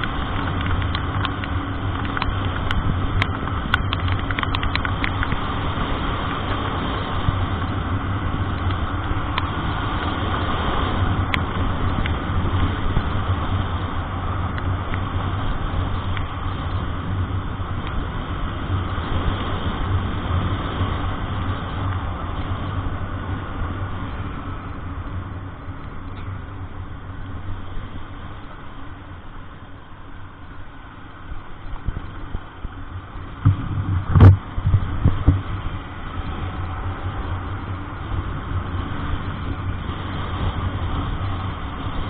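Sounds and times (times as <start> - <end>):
road noise in the rain: 0.0 - 42.0
vehicle engine drone: 0.0 - 42.0.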